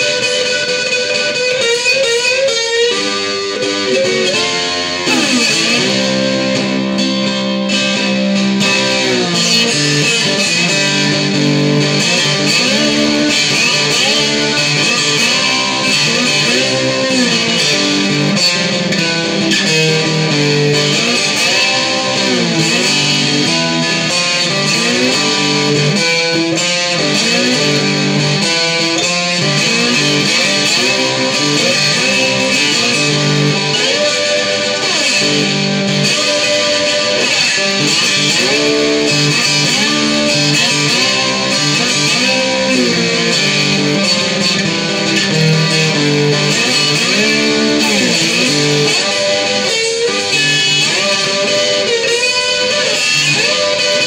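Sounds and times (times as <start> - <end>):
electric slide guitar riff: 0.0 - 54.0.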